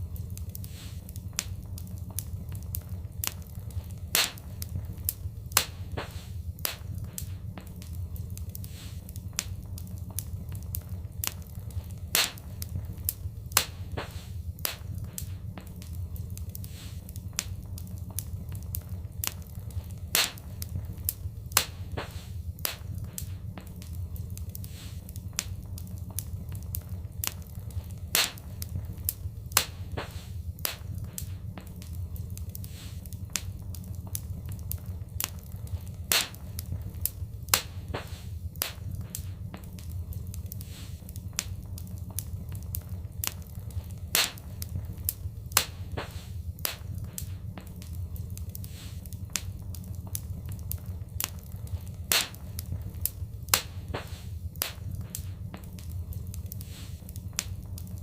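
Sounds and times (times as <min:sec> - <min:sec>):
low rumble of burning: 0:00.0 - 0:58.0
wood fire crackling: 0:00.0 - 0:58.0.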